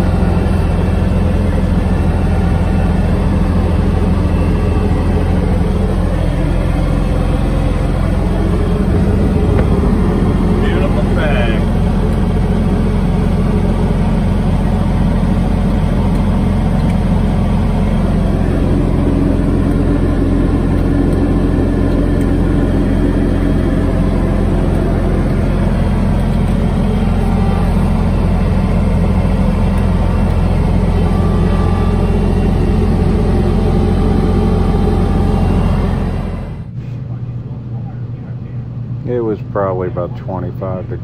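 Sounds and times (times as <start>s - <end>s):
snow blower through snow: 0.0s - 36.6s
diesel engine running at high revs: 0.0s - 41.0s.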